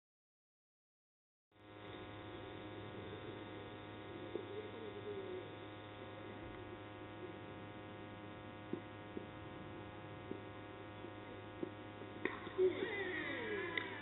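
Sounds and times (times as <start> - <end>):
electrical mains hum: 1.6 - 14.0.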